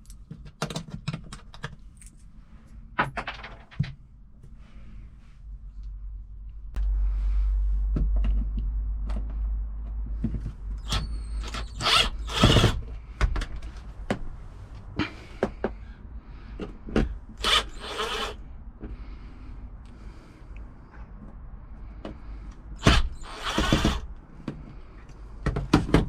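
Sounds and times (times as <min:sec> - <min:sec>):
steady low rumble: 0:04.1 - 0:25.4.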